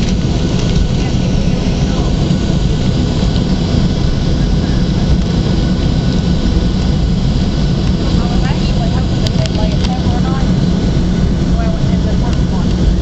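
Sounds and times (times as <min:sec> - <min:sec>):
faint steady whine: 0:00.0 - 0:13.0
jet engine cabin rumble: 0:00.0 - 0:13.0.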